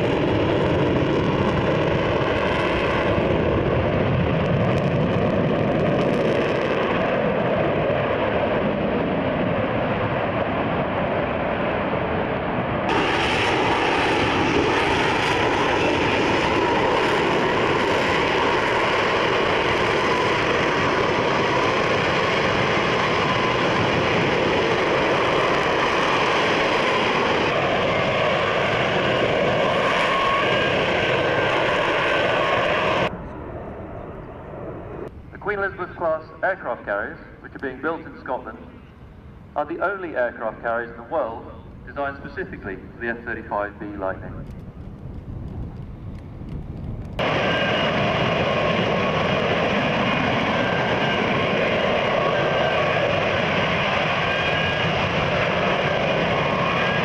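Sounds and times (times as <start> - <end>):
jet engine roar overhead: 0.0 - 57.0.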